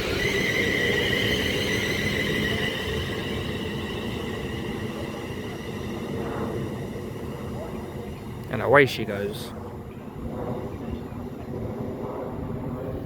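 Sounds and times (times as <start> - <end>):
train running rumble: 0.0 - 12.0
electric train high whine: 0.0 - 13.0.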